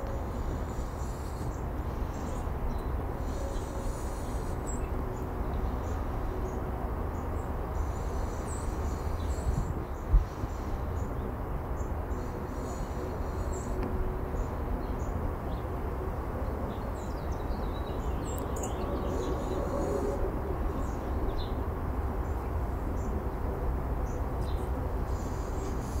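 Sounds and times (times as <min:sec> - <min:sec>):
birds chirping: 0:00.0 - 0:15.7, 0:16.7 - 0:21.6, 0:24.0 - 0:26.0
low outdoor rumble: 0:00.0 - 0:26.0.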